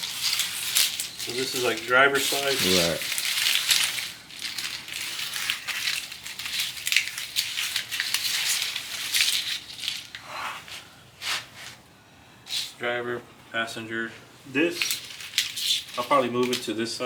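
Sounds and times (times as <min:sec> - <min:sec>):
wiring harness crinkling and rustling: 0:00.0 - 0:11.8, 0:14.5 - 0:17.0.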